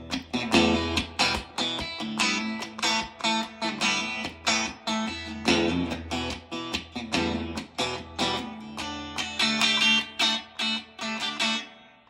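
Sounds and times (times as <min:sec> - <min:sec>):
electric guitar chords: 0:00.0 - 0:12.0.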